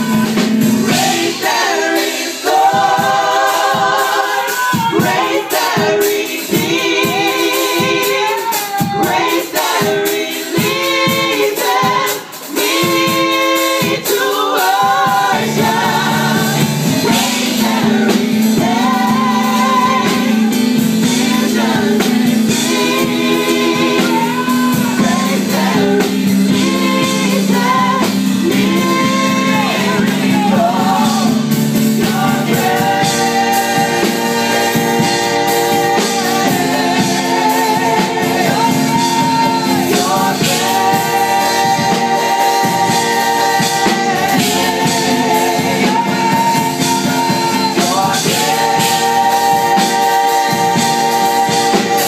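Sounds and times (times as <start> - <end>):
keyboard accompaniment: 0.0 - 52.0
vocal group singing gospel: 0.0 - 52.0.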